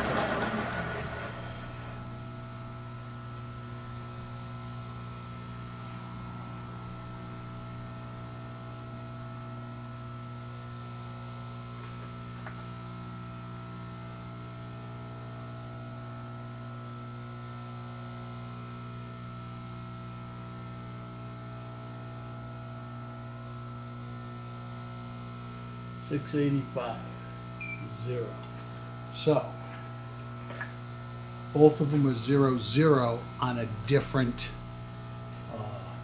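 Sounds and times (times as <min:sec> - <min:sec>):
electric hum: 0:00.0 - 0:36.0.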